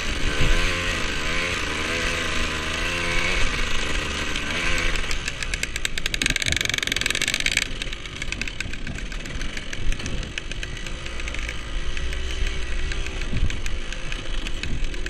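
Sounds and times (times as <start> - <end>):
dirt bike engine buzzing: 0.0 - 15.0.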